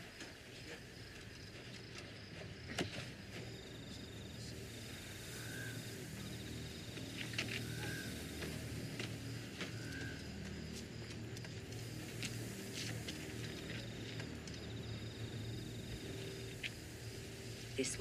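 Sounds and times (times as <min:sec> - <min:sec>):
crickets trilling: 0:00.0 - 0:18.0
low steady drone: 0:00.0 - 0:18.0.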